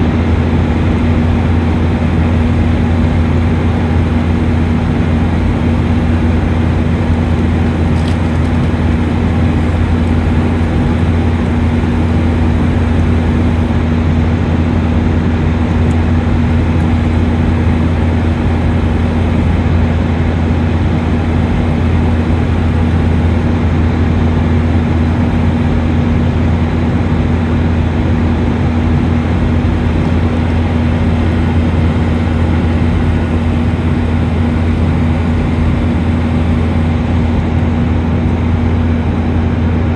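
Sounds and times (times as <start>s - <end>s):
jet engine drone: 0.0s - 39.9s
low hum: 0.0s - 39.9s.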